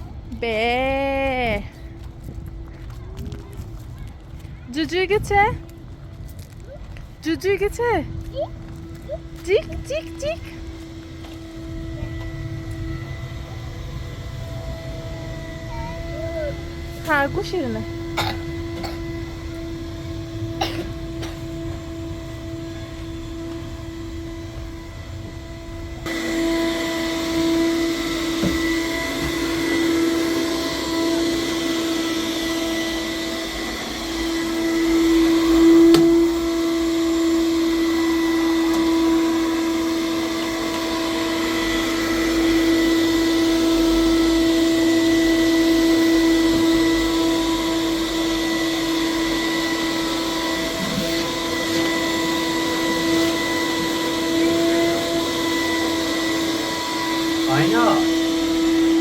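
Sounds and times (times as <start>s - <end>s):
vacuum cleaner humming: 0.0s - 59.0s.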